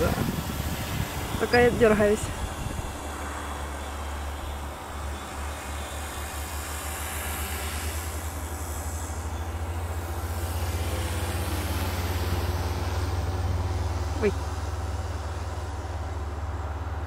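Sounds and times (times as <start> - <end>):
hiss: 2.2 - 16.0.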